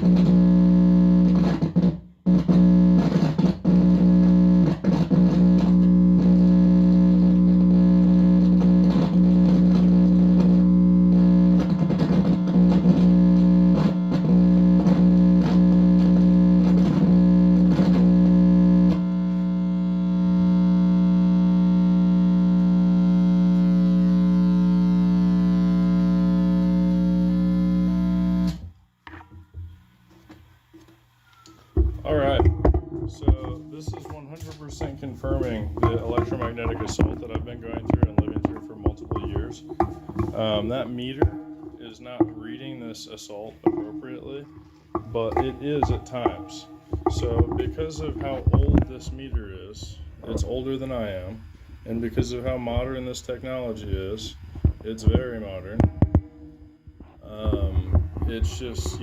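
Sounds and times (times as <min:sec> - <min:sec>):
amplifier crackles and pops: 0:00.0 - 0:59.0
distorted amplifier buzzing drone: 0:00.0 - 0:59.0.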